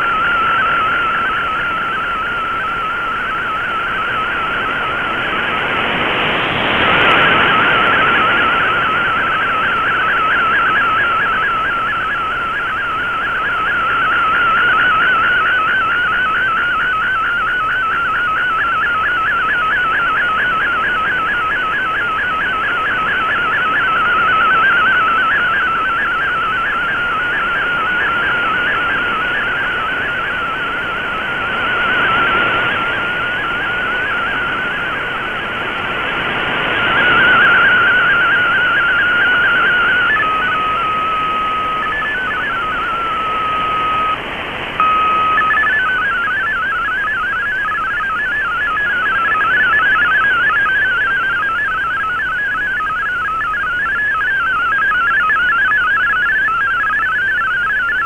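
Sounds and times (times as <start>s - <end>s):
radio hiss: 0.0s - 56.4s
steady lower tone: 0.0s - 58.0s
wavering whistle-like radio tone: 0.0s - 58.0s.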